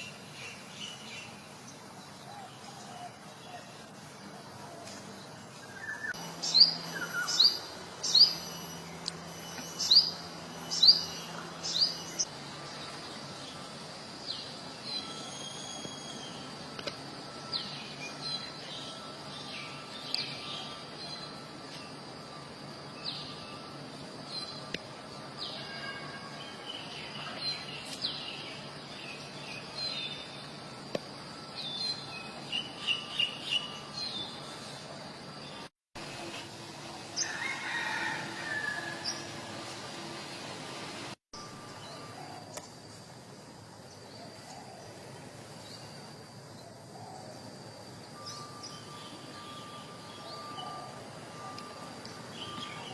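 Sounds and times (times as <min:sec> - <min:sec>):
faint high whine: 0:00.0 - 0:52.9.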